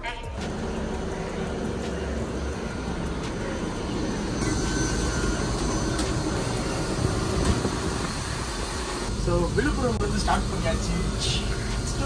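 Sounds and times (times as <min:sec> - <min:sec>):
passenger train rumble: 0:00.0 - 0:12.0.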